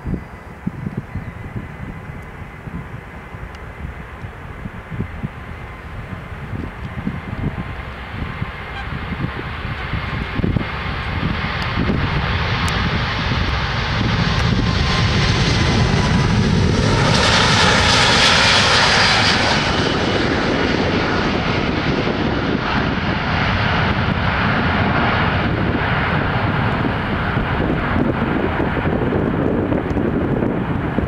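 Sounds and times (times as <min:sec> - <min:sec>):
jet airliner taking off: 0:00.0 - 0:31.0.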